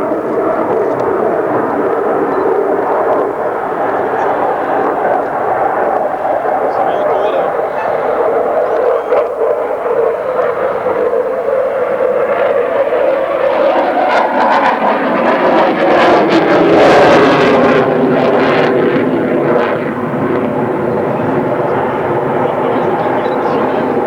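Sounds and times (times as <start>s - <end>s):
fighter jet engines roaring: 0.0s - 24.0s.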